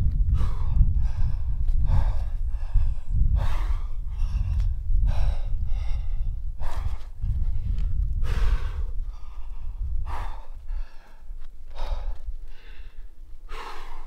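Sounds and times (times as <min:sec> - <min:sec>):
person breathing hard: 0:00.0 - 0:14.0
steady low rumble: 0:00.0 - 0:14.0.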